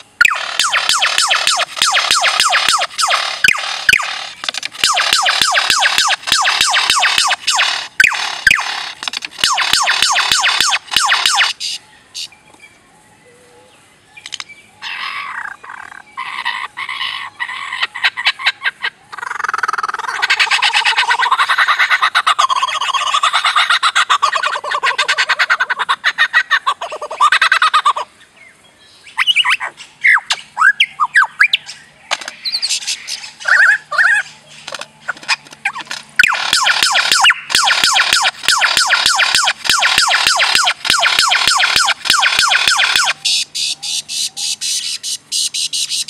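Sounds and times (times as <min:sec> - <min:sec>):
bird mimicking laser sounds: 0:00.0 - 0:11.8, 0:14.8 - 0:28.1, 0:32.2 - 0:46.0.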